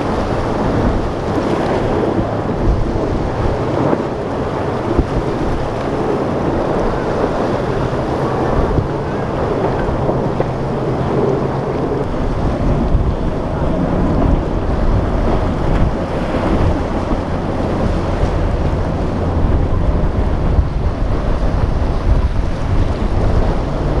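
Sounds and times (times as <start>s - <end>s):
outboard boat engines droning: 0.0s - 24.0s
waves washing: 0.0s - 24.0s
wind buffeting microphone: 0.0s - 24.0s.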